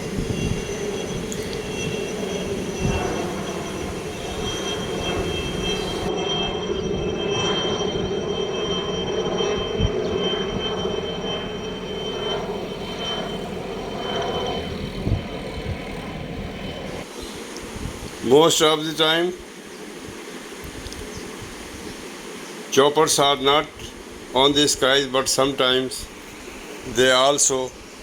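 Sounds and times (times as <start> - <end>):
faint high whine: 0.0 - 28.0
helicopter engine drone: 0.0 - 28.0.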